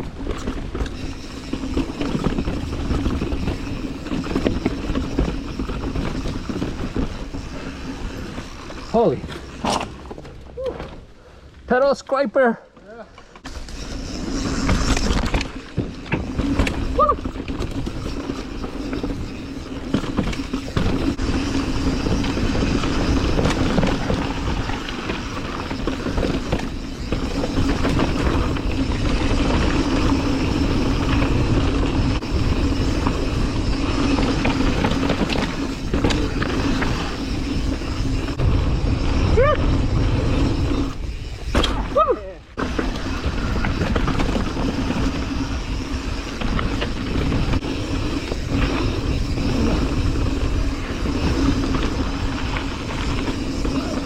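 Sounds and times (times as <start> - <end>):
bike rattling and knocking: 0.0 - 11.1, 12.8 - 54.0
bike tyres rolling on dirt: 0.0 - 54.0.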